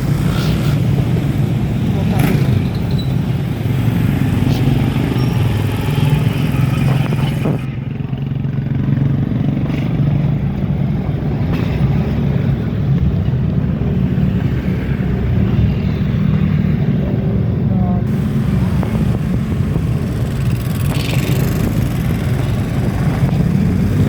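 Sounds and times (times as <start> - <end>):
motorcycle engine drone: 0.0 - 24.0
road noise: 0.0 - 24.0.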